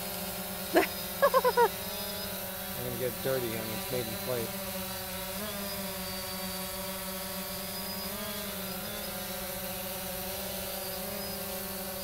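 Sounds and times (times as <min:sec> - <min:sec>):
quadcopter propellers buzzing: 0:00.0 - 0:12.0.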